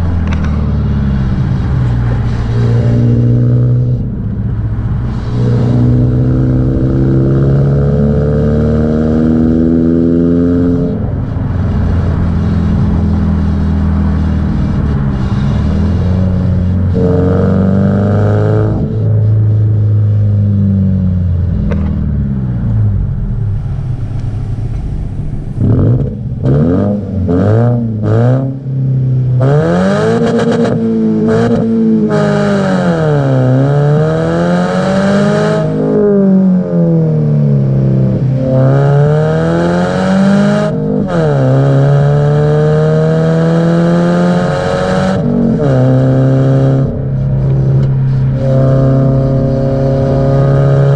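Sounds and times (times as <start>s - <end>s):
car engine revving through gears: 0.0s - 50.9s.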